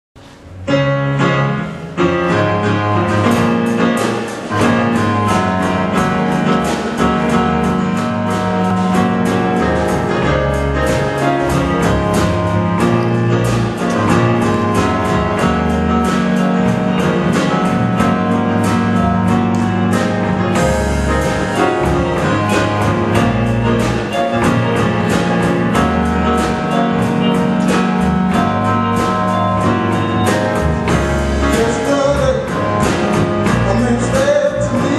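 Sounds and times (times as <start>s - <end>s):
instrumental gospel music: 0.2s - 34.9s.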